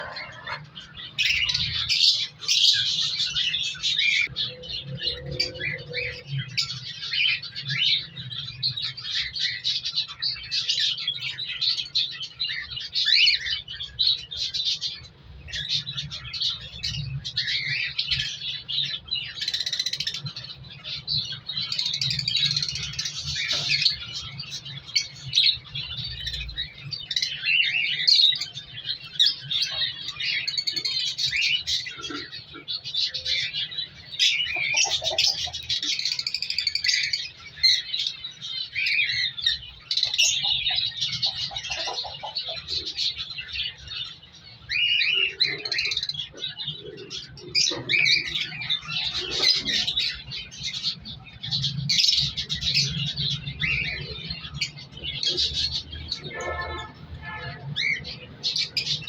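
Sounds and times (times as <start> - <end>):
cockatiels chirping and calling: 0.0 - 59.0.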